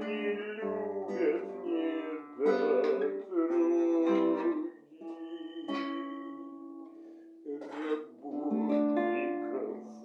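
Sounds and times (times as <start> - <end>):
man singing: 0.0 - 6.4, 7.4 - 10.0
guitar strummed: 0.0 - 10.0.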